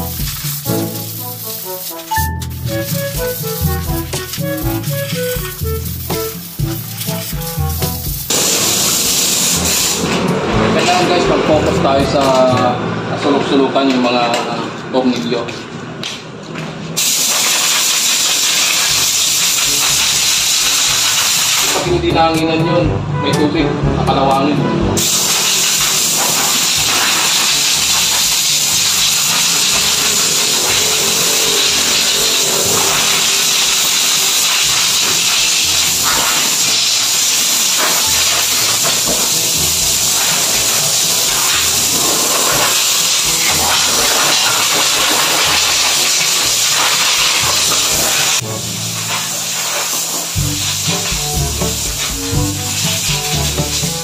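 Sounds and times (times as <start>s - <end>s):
compressed air blow gun hissing: 0.0s - 10.2s, 17.0s - 21.8s, 25.0s - 54.0s.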